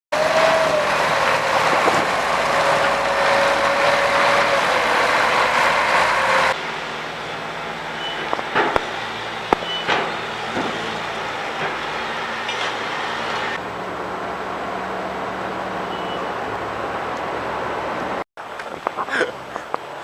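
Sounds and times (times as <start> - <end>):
heavy vehicle running: 0.1 - 20.0
street traffic: 0.1 - 20.0.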